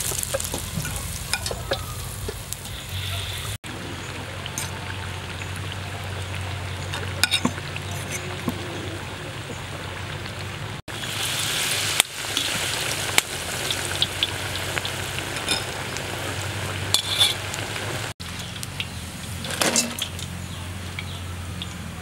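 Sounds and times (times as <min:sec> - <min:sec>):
deep-frying sizzle with pops: 0:00.0 - 0:08.6, 0:09.3 - 0:22.0.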